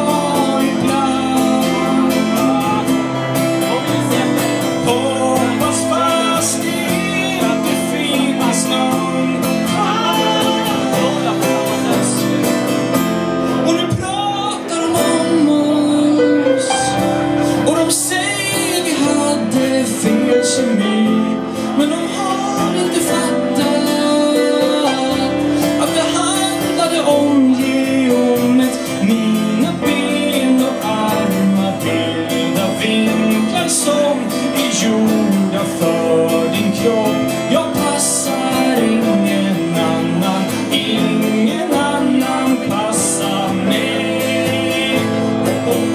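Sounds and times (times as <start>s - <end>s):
acoustic guitar: 0.0s - 45.9s
live band playing: 0.0s - 45.9s
person singing: 0.0s - 45.9s.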